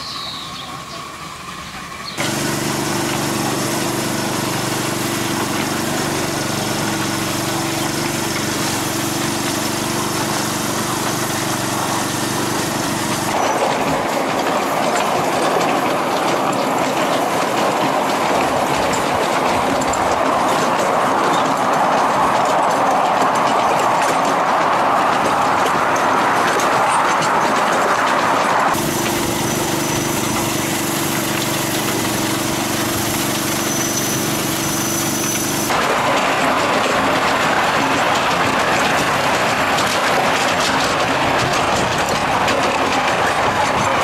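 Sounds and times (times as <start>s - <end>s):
wheels rolling on rail: 0.0s - 44.0s
rail joint clicks: 2.0s - 44.0s.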